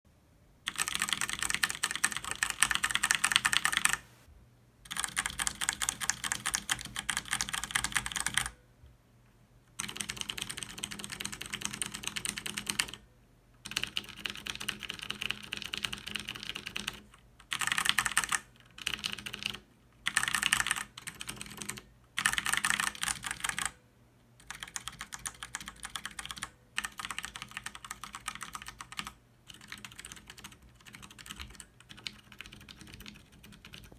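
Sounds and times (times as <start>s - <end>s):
mechanical keyboard typing: 0.7s - 4.1s, 4.9s - 8.6s, 9.8s - 13.0s, 13.6s - 23.8s, 24.4s - 33.9s.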